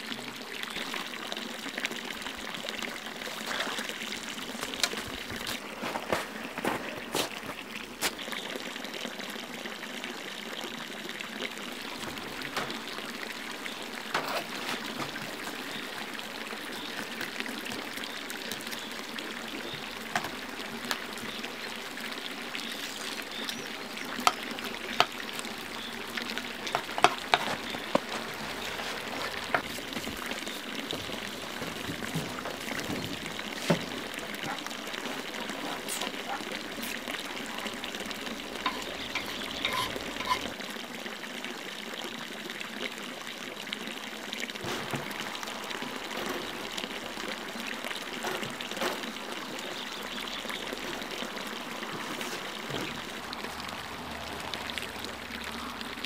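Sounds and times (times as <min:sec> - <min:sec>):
stream running water: 0:00.0 - 0:56.0.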